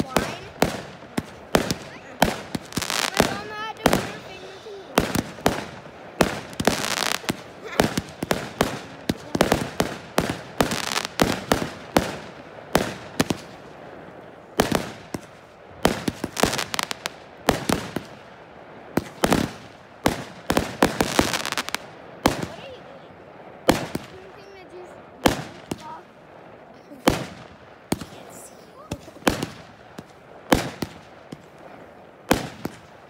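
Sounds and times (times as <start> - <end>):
fireworks bangs and pops: 0.0 - 33.0.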